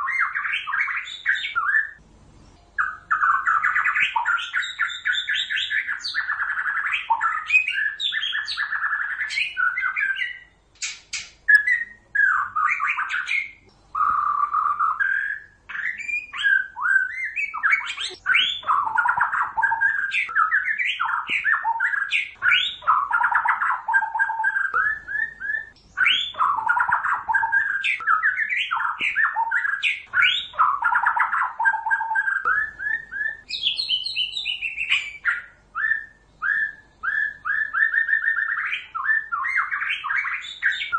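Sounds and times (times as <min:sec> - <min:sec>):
songbird singing whistles: 0:00.0 - 0:40.9.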